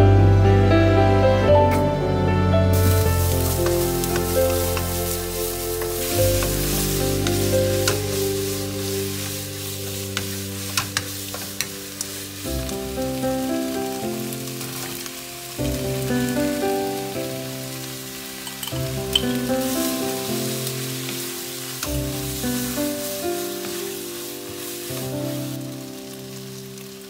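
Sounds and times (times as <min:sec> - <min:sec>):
background music: 0:00.0 - 0:27.0
food sizzling in oil: 0:02.7 - 0:27.0.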